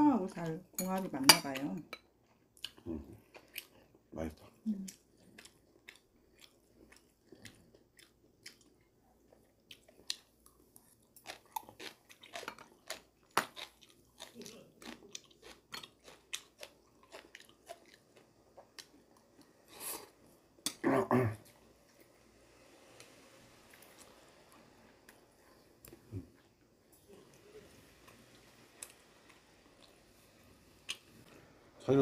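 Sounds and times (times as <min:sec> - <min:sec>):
man chewing food: 0:02.0 - 0:20.8, 0:23.7 - 0:31.6.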